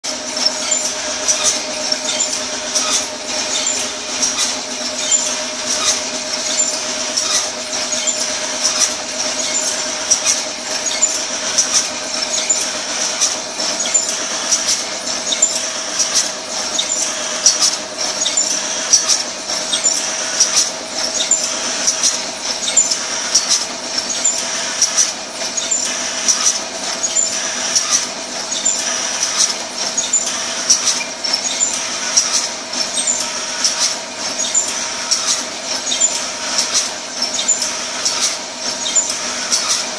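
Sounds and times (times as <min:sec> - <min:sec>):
packing machine humming: 0:00.0 - 0:39.9
high machine squeal: 0:00.1 - 0:39.9
machine parts clicking: 0:00.2 - 0:39.9.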